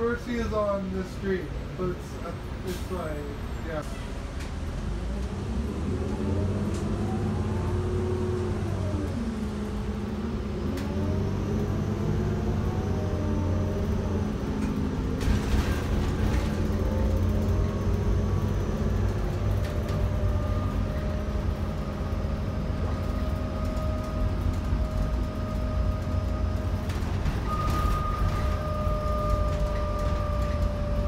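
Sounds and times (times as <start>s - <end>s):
bus engine rumble: 0.0s - 31.0s.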